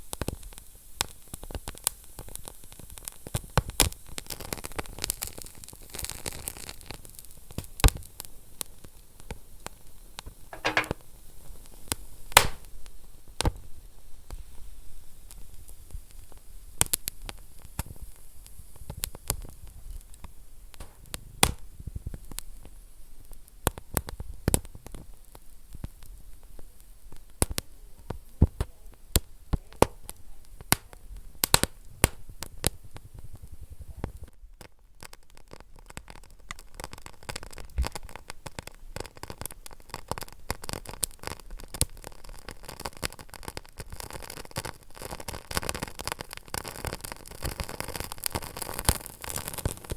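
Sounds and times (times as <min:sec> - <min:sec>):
wood fire crackling: 0:00.1 - 0:49.9.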